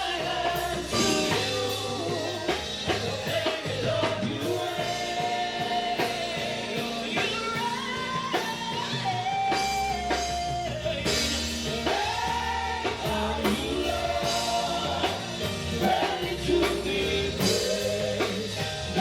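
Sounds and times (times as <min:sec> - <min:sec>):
drum kit: 0:00.0 - 0:19.0
gospel band playing: 0:00.0 - 0:19.0
guitar: 0:00.0 - 0:19.0.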